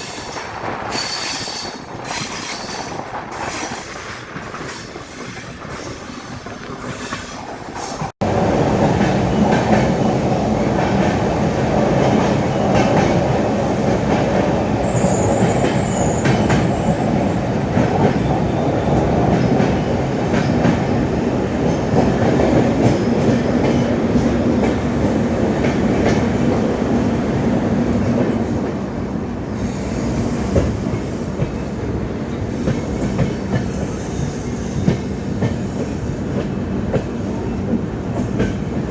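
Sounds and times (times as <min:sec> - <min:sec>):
passenger train rumbling on track: 0:00.0 - 0:38.9.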